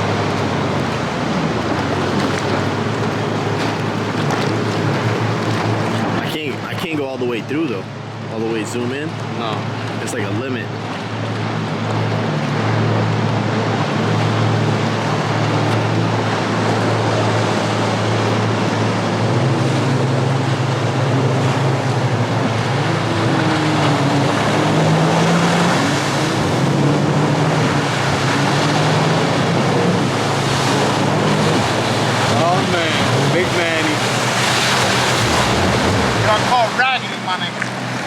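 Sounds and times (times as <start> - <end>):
jet ski engine running: 0.0 - 38.0
water noise: 0.0 - 38.0.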